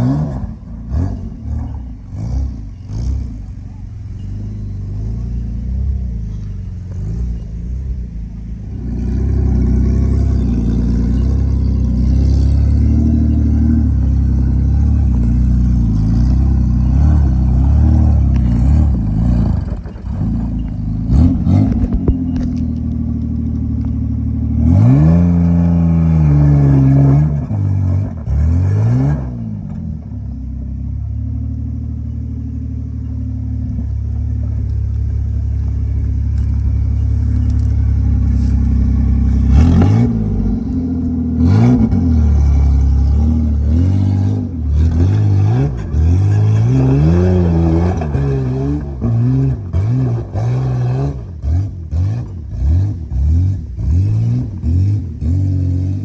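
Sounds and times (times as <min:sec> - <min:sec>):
loud car engine revving: 0:00.0 - 0:56.0.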